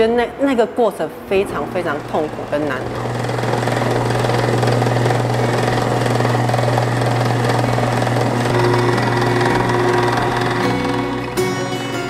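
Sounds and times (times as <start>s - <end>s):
noodle cutting machine running: 1.4s - 11.9s.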